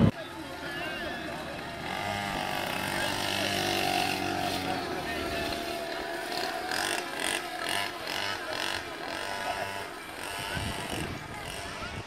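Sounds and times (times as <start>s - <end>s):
small motorbike engine running: 0.2s - 12.0s.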